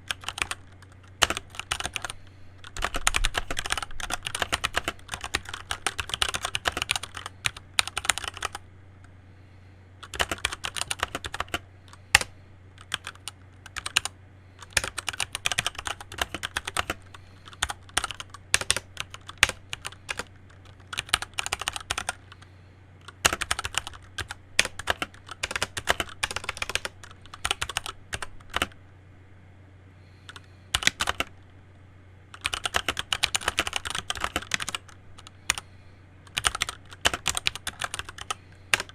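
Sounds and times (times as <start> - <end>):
mechanical keyboard typing: 0.0 - 8.6, 10.0 - 22.2, 23.0 - 28.8, 30.3 - 31.3, 32.3 - 35.6, 36.3 - 38.9.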